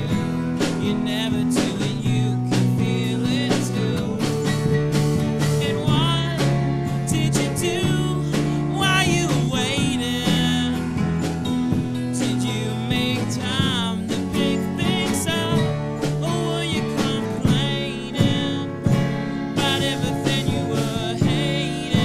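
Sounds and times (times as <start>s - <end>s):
drums and cymbals: 0.0s - 22.0s
electric guitar: 0.0s - 22.0s
strummed acoustic guitars: 0.0s - 22.0s.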